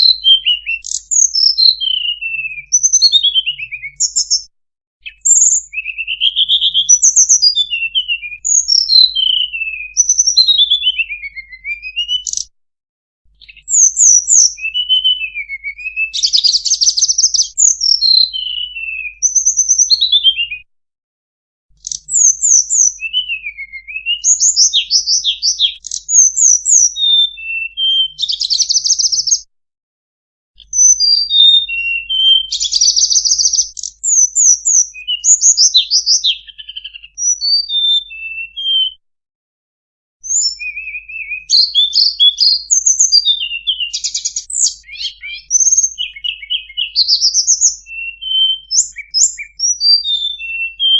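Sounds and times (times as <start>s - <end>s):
bird song with whistles and trills: 0.0s - 12.6s, 13.3s - 20.7s, 21.7s - 29.5s, 30.6s - 39.0s, 40.2s - 50.9s.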